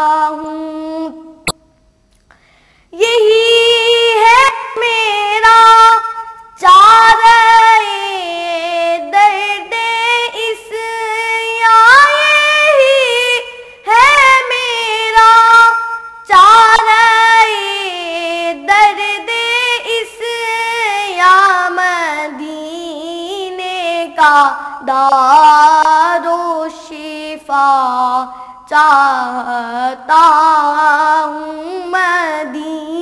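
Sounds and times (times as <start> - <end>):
boy singing devotional song: 0.0 - 1.7, 2.3 - 33.0.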